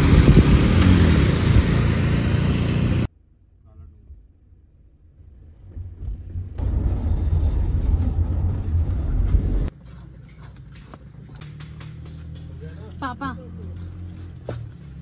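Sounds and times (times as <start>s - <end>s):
car interior engine and tyre rumble: 0.0s - 15.0s.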